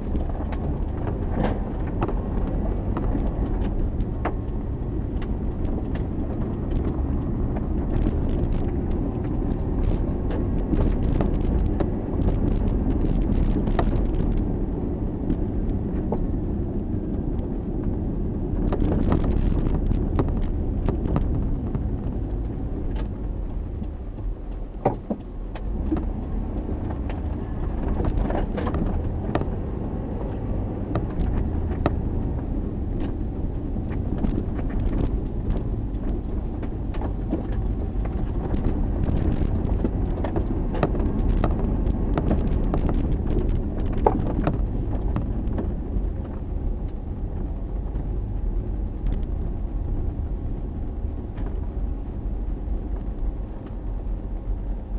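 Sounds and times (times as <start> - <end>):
small clicks and rattles: 0.0 - 14.6, 18.6 - 50.2
car engine and road rumble: 0.0 - 54.9.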